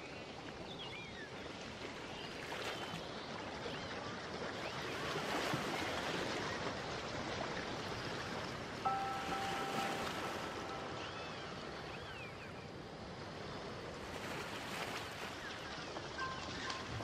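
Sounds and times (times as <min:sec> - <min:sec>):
rushing water: 0:01.3 - 0:17.0.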